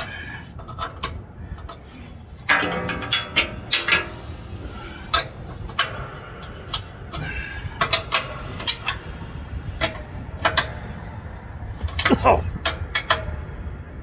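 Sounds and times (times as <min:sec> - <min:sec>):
metallic clicks of wrenches and bolts: 0:00.0 - 0:09.1, 0:09.8 - 0:10.9, 0:11.8 - 0:13.4.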